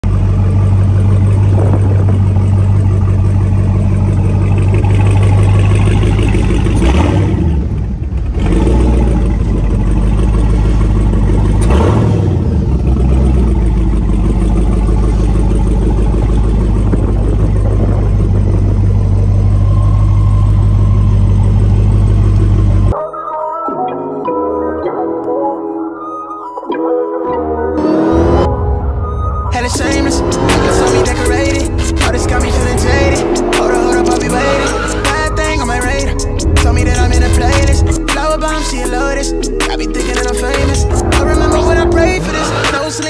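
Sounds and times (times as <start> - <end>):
car engine idling and revving: 0.0 - 23.0, 27.8 - 43.0.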